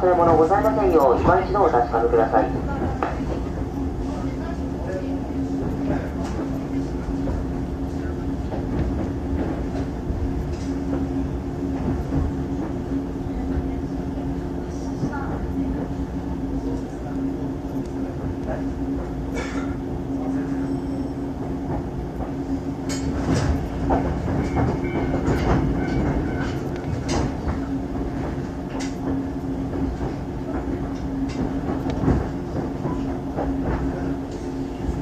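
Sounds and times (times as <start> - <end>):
electric train hum: 0.0 - 35.0.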